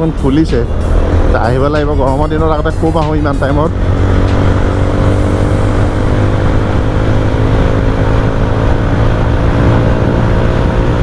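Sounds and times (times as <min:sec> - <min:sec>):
loud motorcycle cruising: 0:00.0 - 0:11.0
road noise: 0:00.0 - 0:11.0.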